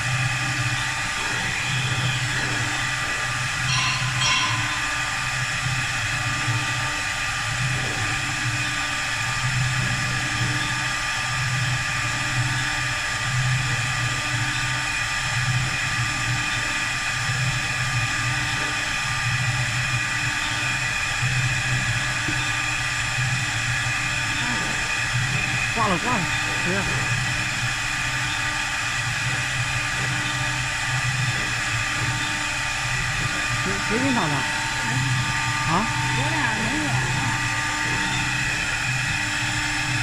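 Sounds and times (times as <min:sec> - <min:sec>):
wood lathe running: 0:00.0 - 0:11.0, 0:17.5 - 0:40.0.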